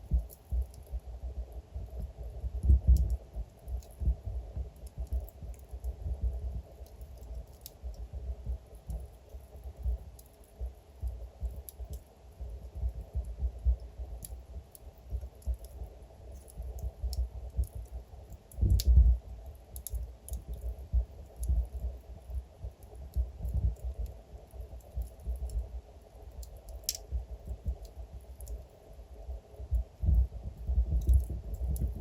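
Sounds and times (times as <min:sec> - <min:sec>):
fire crackling and popping: 0:00.0 - 0:32.0
low rumble of fire: 0:00.0 - 0:32.0.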